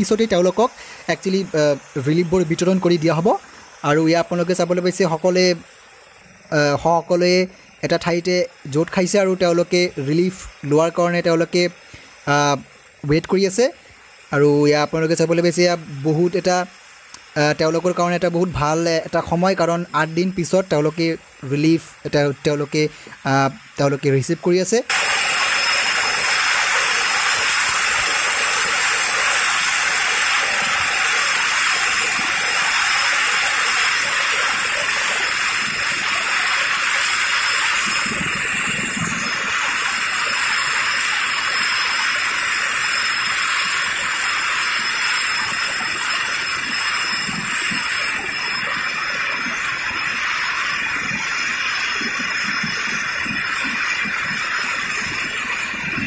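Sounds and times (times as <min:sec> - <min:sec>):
helicopter turbine engines: 0:00.0 - 0:56.0.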